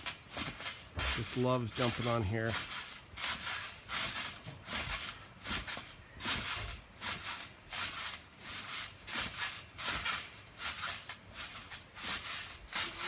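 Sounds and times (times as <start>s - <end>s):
trampoline mat and springs rustling: 0.0s - 13.0s.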